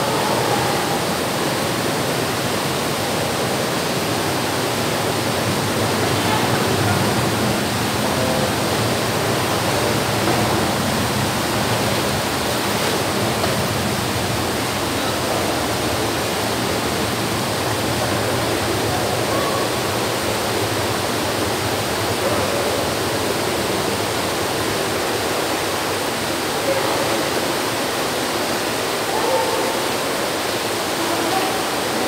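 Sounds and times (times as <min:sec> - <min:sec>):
pool water churned by swimmers: 0:00.0 - 0:32.0.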